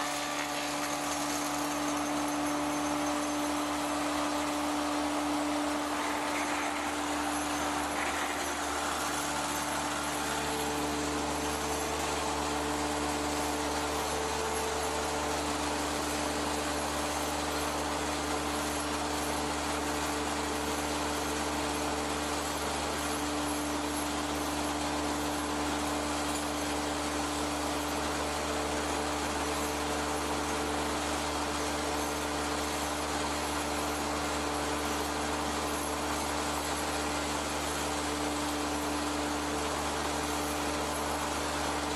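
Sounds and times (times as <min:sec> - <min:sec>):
lathe machine hum and whir: 0:00.0 - 0:41.9.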